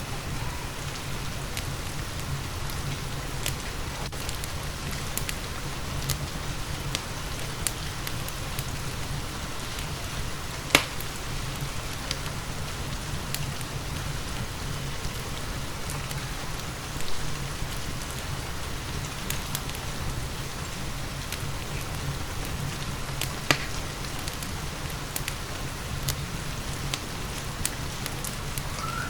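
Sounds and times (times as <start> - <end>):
steady rain: 0.0 - 29.0
wood fire crackling: 0.0 - 29.0.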